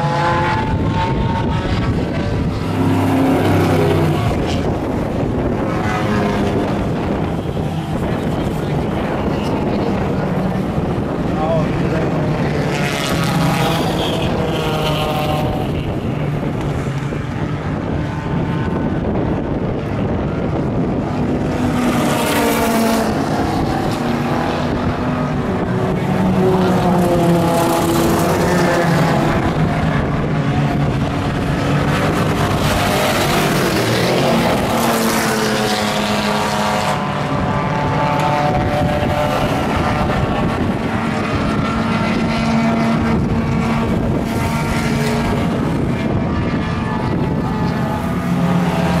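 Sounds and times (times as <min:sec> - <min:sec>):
race car engines: 0:00.0 - 0:49.0.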